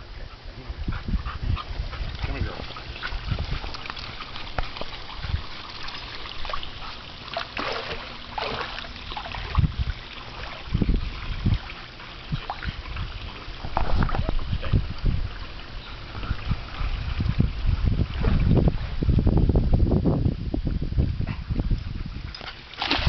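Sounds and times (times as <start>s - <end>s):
wind on microphone: 0.0s - 7.0s, 8.4s - 23.0s
water splashing from dog swimming: 1.3s - 19.2s, 22.1s - 23.0s.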